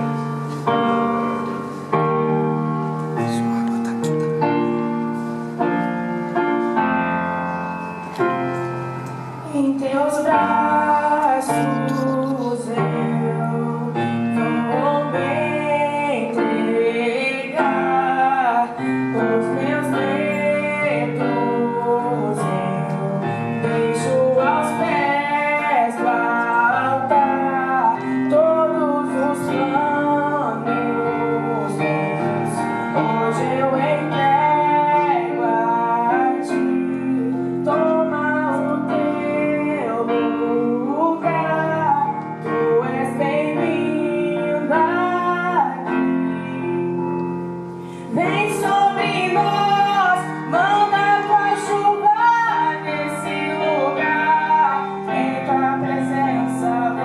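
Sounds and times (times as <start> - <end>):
instrumental accompaniment: 0.0 - 57.0
woman singing with vibrato: 9.3 - 47.1, 47.9 - 57.0.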